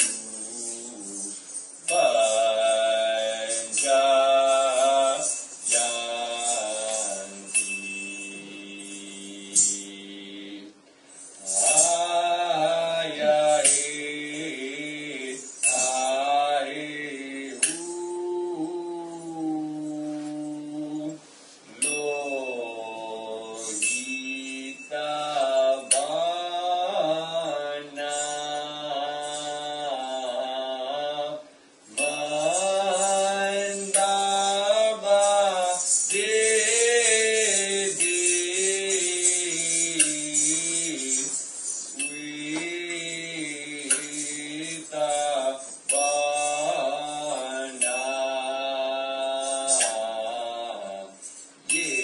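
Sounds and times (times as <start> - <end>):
small metal cymbal ringing: 0.0 - 30.6, 31.3 - 52.0
slow sung chant: 0.0 - 52.0.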